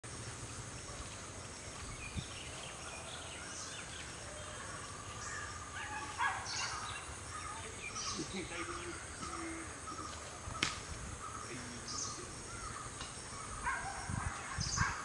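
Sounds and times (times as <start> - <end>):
high insect hiss: 0.0 - 15.0
small birds chirping: 0.1 - 15.0.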